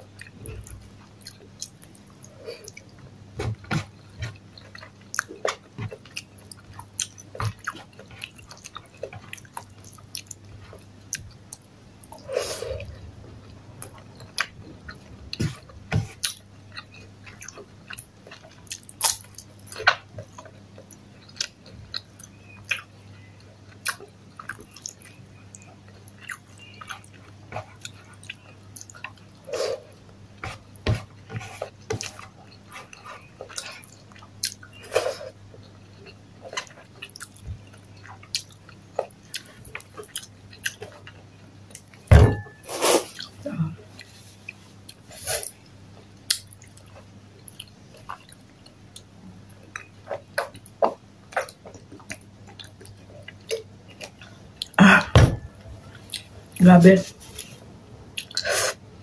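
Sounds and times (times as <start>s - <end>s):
close chewing and mouth smacks: 0.0s - 42.1s, 43.1s - 54.8s, 55.6s - 56.6s, 57.2s - 58.8s
faint low hum: 0.0s - 59.0s.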